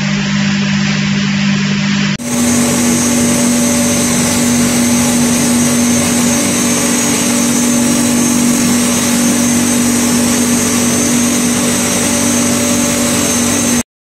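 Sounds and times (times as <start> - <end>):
hammer mill whirring: 0.0 - 13.9.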